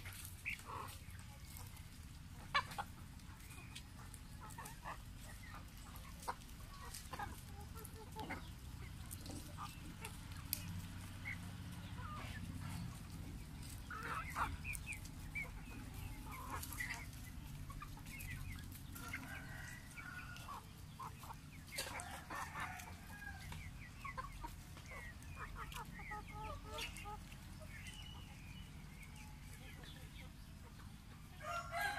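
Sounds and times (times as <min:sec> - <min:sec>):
hens and roosters clucking: 0:00.0 - 0:31.9.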